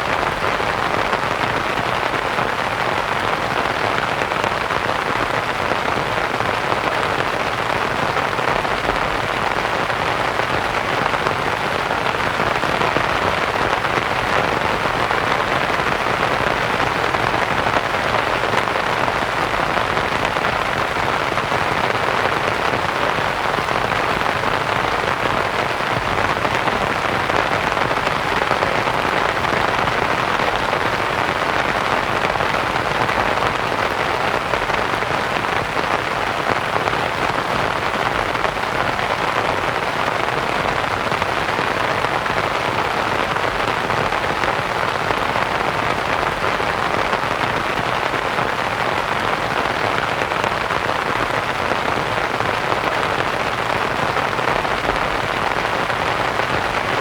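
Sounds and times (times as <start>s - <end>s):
rain pattering on a tent: 0.0s - 57.0s.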